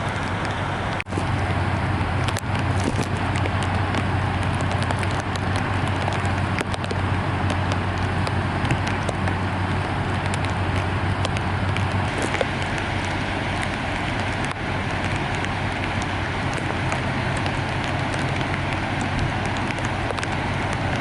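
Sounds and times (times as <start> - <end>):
flood water rushing: 0.0 - 21.0
small crackles: 0.0 - 21.0.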